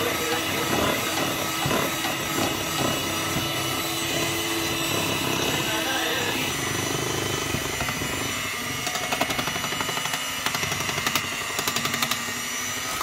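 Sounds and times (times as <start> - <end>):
electric hand mixer running: 0.0 - 13.0.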